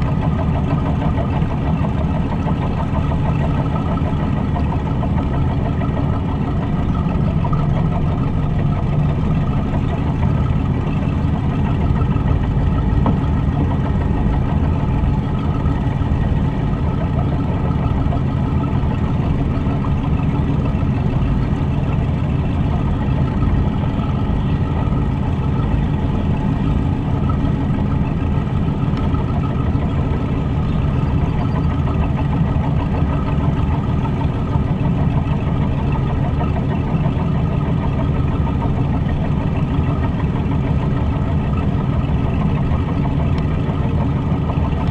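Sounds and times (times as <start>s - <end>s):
boat engine running: 0.0s - 44.9s
water washing along boat: 0.0s - 44.9s.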